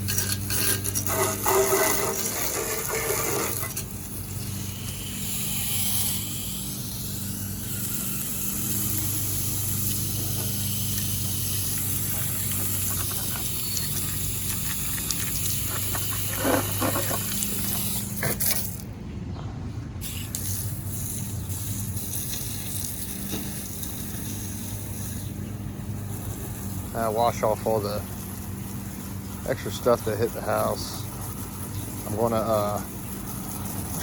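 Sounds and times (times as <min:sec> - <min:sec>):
water spray hissing on concrete: 0:00.0 - 0:18.8, 0:20.0 - 0:34.0
pressure washer engine hum: 0:00.0 - 0:34.0.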